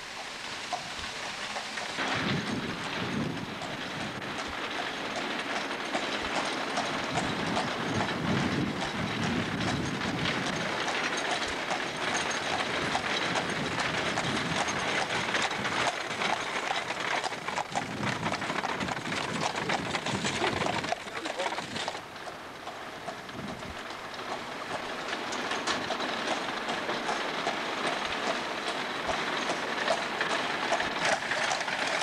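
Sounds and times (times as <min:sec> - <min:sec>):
carriage wheels rolling and rattling: 0:00.0 - 0:32.0
horse hooves clopping on pavement: 0:00.0 - 0:32.0.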